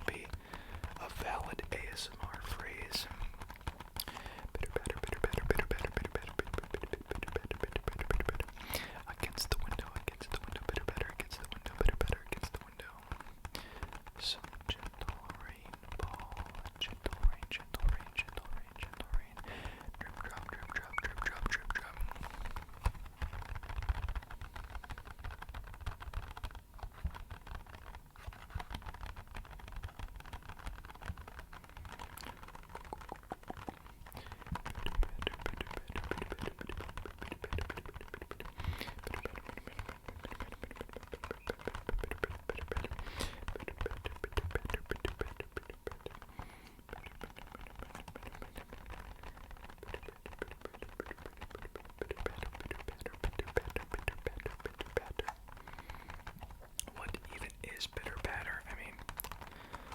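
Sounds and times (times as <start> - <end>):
fingertips tapping on empty box: 0.0 - 59.9.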